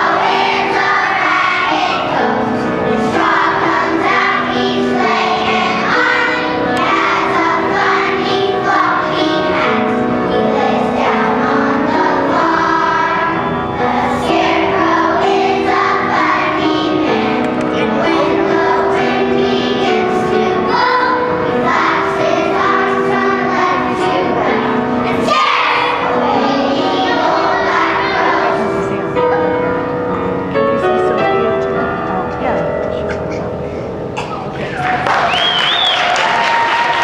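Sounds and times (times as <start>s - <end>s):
children's choir singing: 0.0s - 32.8s, 33.9s - 37.0s.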